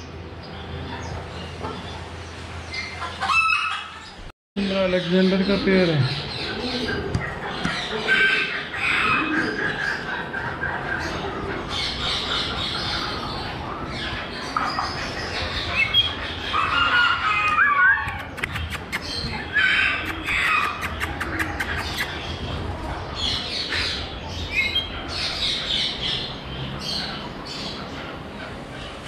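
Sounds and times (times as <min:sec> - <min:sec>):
parrots squawking and chirping: 0:02.7 - 0:04.2, 0:04.9 - 0:29.0.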